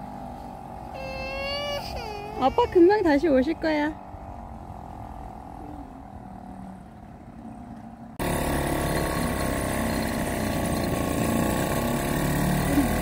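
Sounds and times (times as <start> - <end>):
outboard motor drone: 0.0 - 13.0.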